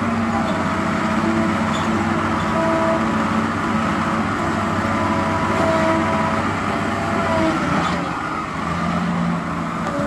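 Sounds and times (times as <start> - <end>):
diesel engine working under load: 0.0 - 10.0.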